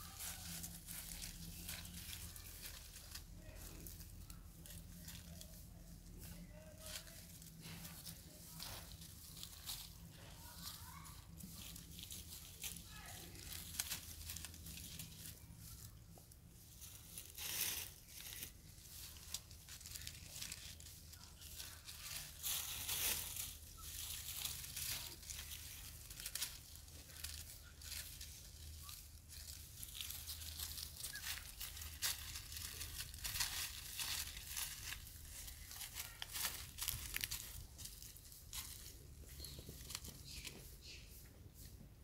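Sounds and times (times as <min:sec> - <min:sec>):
dry leaves crackling and rustling: 0:00.0 - 0:41.7.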